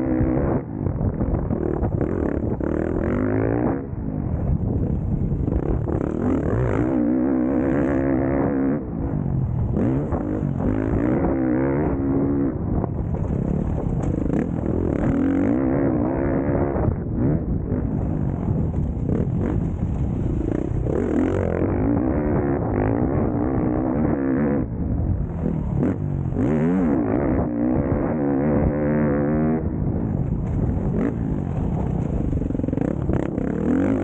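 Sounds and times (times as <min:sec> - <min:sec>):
motorbike engines revving: 0:00.0 - 0:34.0.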